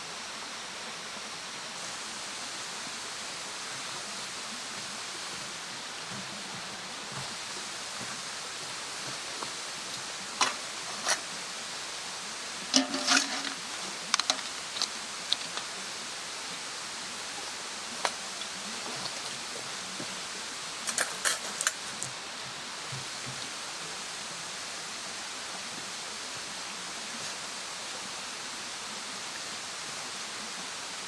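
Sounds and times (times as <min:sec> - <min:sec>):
campfire hissing: 0:00.0 - 0:31.0.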